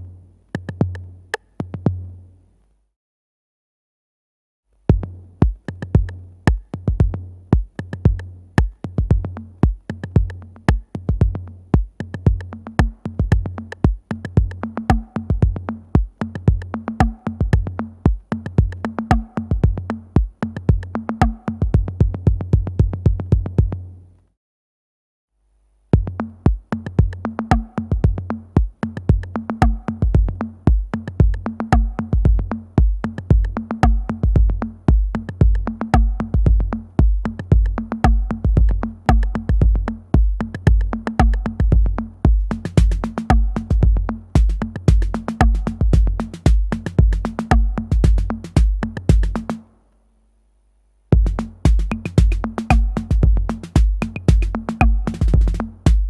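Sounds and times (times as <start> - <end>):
deep kick drums: 4.9 - 16.6, 17.4 - 23.8, 26.0 - 49.6, 51.1 - 56.0
sharp clicky percussion: 5.4 - 22.9, 26.3 - 49.7, 51.2 - 56.0.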